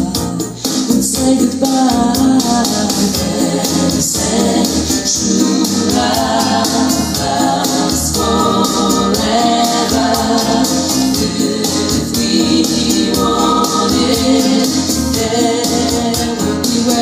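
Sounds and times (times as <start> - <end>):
group singing over a steady beat: 0.0 - 17.0.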